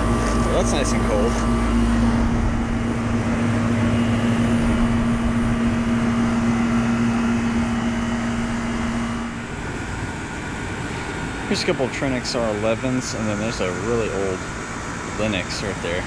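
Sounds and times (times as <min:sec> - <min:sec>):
compressor hum: 0:00.0 - 0:16.0
condenser fan whoosh: 0:00.0 - 0:16.0.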